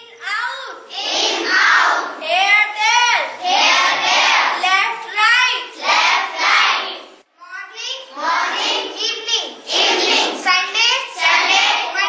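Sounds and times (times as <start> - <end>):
child chanting words: 0.0 - 12.0.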